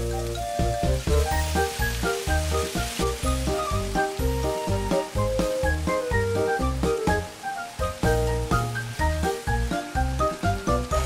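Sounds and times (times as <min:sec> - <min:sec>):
bouncy background music: 0:00.0 - 0:11.0
sauce sizzling in hot oil: 0:00.0 - 0:11.0.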